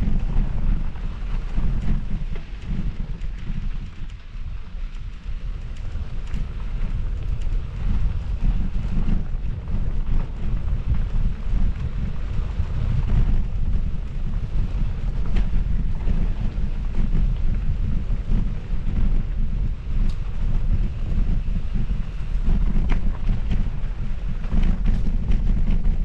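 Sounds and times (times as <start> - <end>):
faint ticks and rattles: 0.0 - 26.0
wind buffeting microphone: 0.0 - 26.0.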